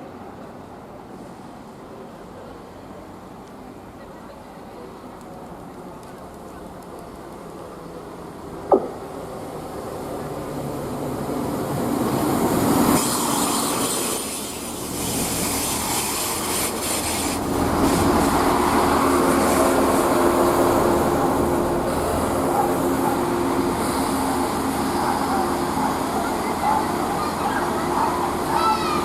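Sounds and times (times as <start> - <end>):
train wheels rushing on rails: 5.0 - 29.0.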